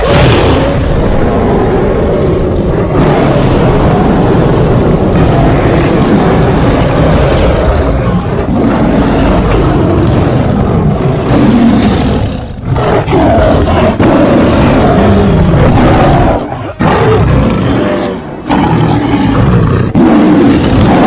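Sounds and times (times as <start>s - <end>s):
big cat roars and growls: 0.0s - 21.0s.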